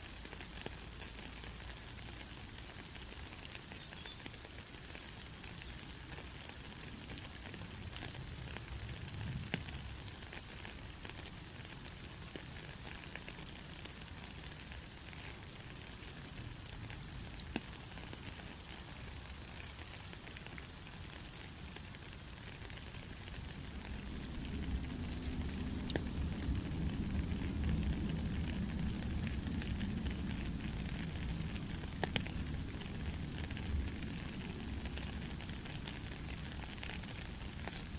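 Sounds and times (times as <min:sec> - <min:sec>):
faint crackles and pops: 0:00.0 - 0:37.9
white-noise hiss: 0:00.0 - 0:37.9.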